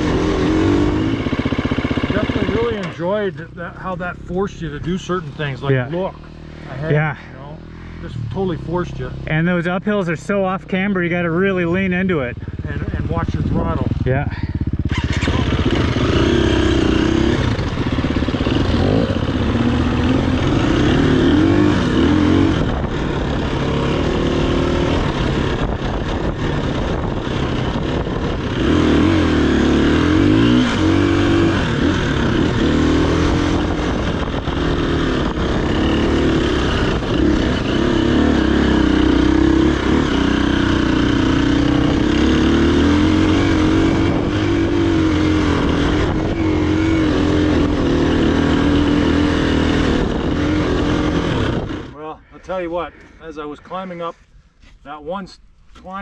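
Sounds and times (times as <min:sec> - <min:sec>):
dirt bike engine revving: 0:00.0 - 0:52.4.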